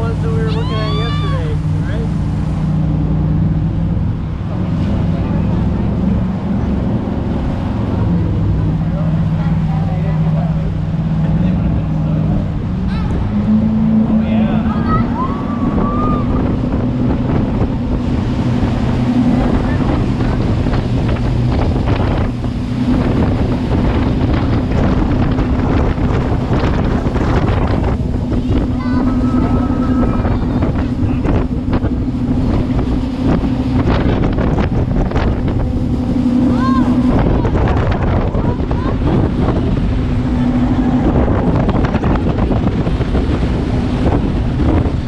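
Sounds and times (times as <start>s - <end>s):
boat engines droning: 0.0s - 45.0s
rushing water: 0.0s - 45.0s
wind buffeting microphone: 0.0s - 45.0s.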